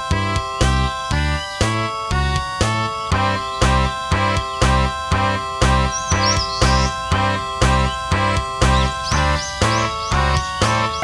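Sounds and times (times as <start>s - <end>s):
background music with steady beat: 0.0s - 11.0s
bass line: 0.1s - 11.0s.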